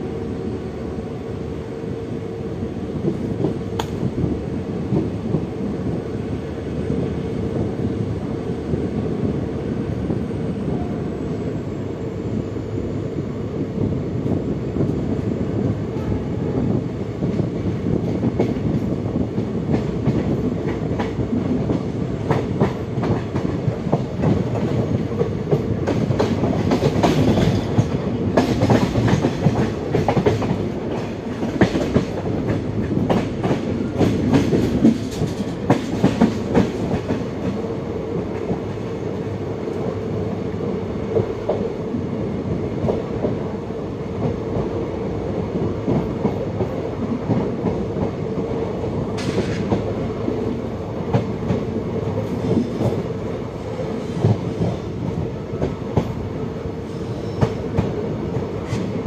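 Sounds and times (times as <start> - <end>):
train coach rumbling: 0.0 - 59.0.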